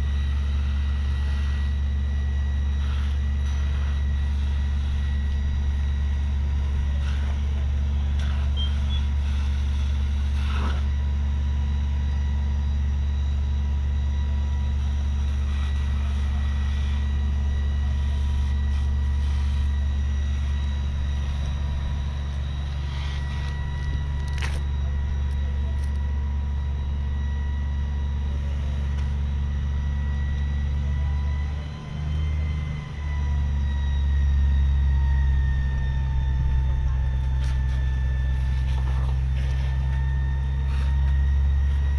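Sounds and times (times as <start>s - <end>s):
diesel engine droning: 0.0s - 41.9s
faint steady whine: 0.0s - 41.9s.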